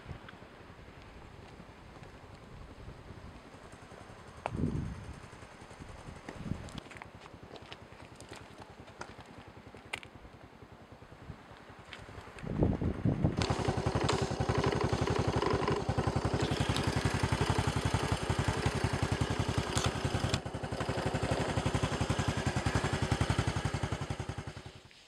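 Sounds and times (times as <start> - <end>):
engine chugging: 0.7 - 24.9.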